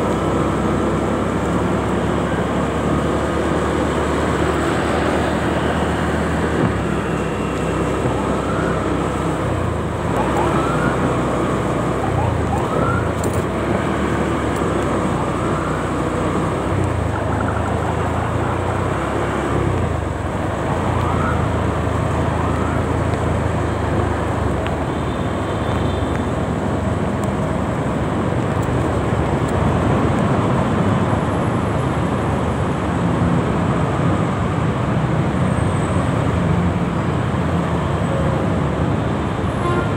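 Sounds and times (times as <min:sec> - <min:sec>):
city traffic: 0:00.0 - 0:39.9.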